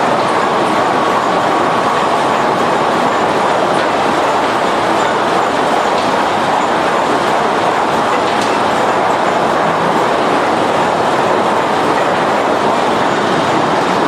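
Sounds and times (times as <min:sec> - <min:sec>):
conveyor machine noise: 0:00.0 - 0:14.0.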